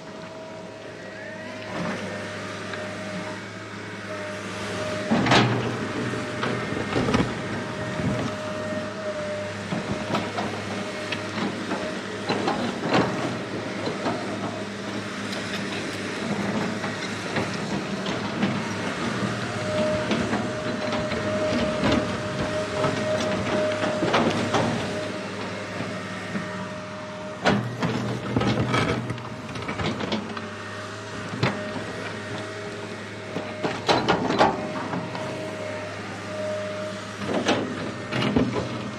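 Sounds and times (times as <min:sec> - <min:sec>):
toy excavator motors whirring: 0:04.2 - 0:38.9.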